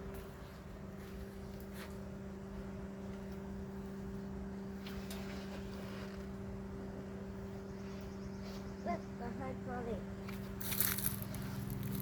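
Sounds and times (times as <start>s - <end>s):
mini excavator running: 0.0s - 12.0s.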